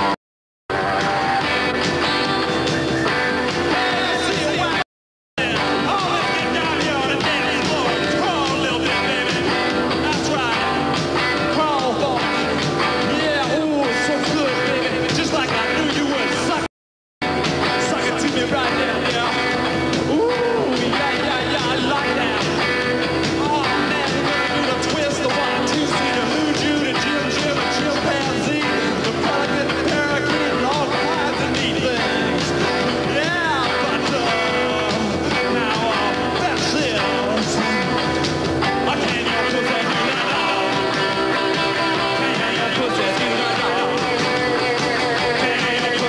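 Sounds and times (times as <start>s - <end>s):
electric guitar: 0.0s - 4.8s, 5.4s - 46.0s
man singing: 0.0s - 4.8s, 5.4s - 16.7s, 17.7s - 46.0s
drums: 0.0s - 46.0s
rock band playing loud: 0.0s - 46.0s.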